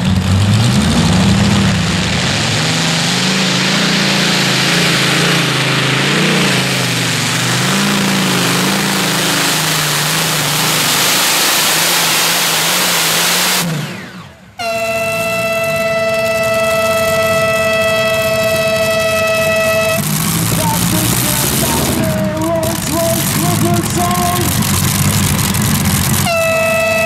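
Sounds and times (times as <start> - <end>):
tractor engine running hard: 0.0 - 27.0.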